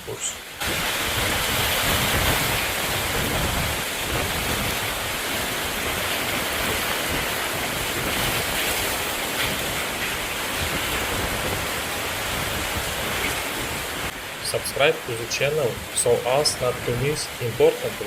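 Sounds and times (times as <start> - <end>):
heavy rushing floodwater: 0.0 - 18.0.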